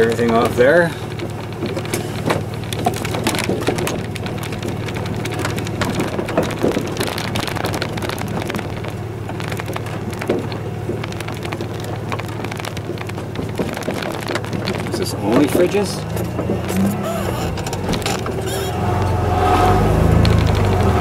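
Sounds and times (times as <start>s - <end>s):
clicks and knocks: 0.0s - 19.2s
truck engine hum: 0.0s - 21.0s.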